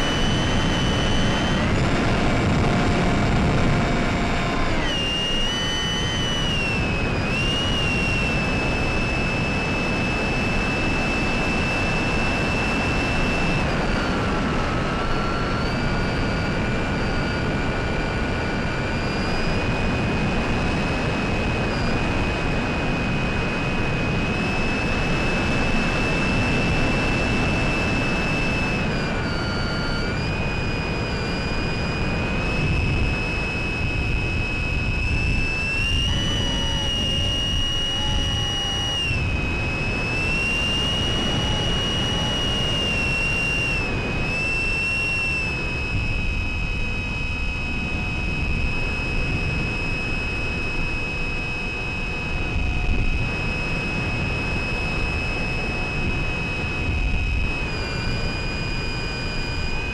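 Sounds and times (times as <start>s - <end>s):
electric motor high whine: 0.0s - 59.9s
rushing wind noise: 0.0s - 59.9s.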